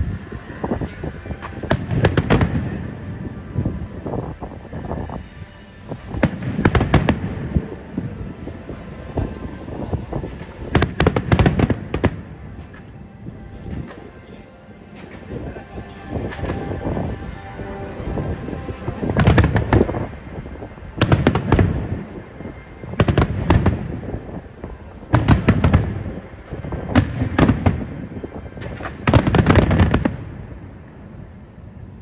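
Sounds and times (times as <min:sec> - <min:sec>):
fireworks bangs and crackles: 0:00.0 - 0:31.4.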